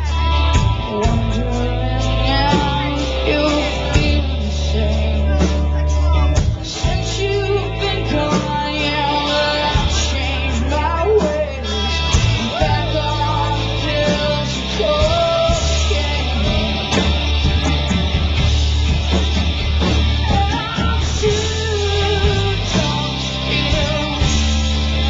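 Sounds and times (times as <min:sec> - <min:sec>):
woman singing: 0:00.0 - 0:17.7, 0:20.0 - 0:25.0
drums: 0:00.0 - 0:25.0
electric guitars: 0:00.0 - 0:25.0
rock band playing: 0:00.0 - 0:25.0.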